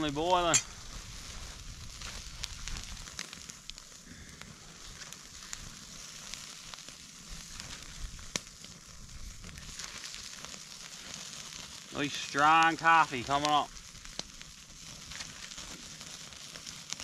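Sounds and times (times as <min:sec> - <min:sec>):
sausages sizzling on grill: 0:00.0 - 0:17.0
wood fire popping and crackling: 0:00.0 - 0:17.0.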